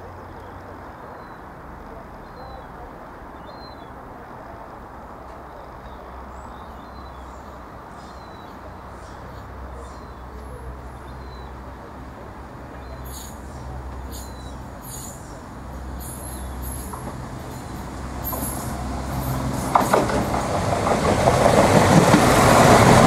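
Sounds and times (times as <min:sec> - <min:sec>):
train rumbling: 0:00.0 - 0:23.0
birds chirping: 0:00.2 - 0:23.0.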